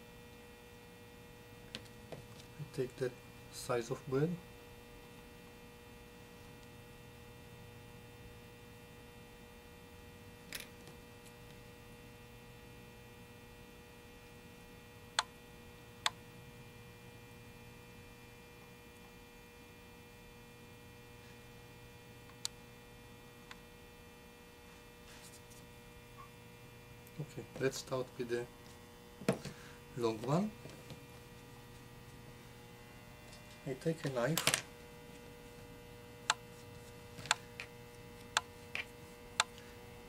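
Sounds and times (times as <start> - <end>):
faint mains hum: 0.0 - 40.0.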